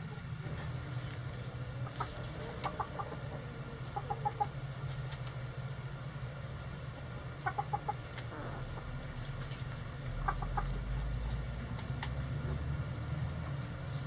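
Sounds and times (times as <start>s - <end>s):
hens clucking: 0.0s - 11.7s
steady low hum: 0.0s - 14.0s.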